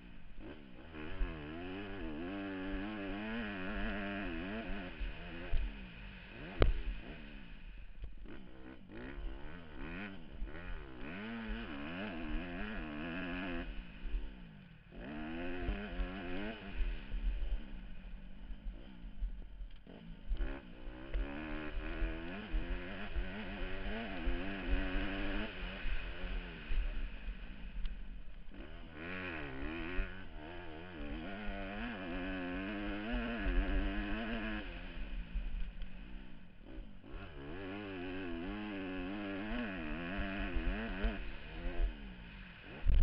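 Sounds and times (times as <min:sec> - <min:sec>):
motocross bike engine revving: 0:00.0 - 0:43.0.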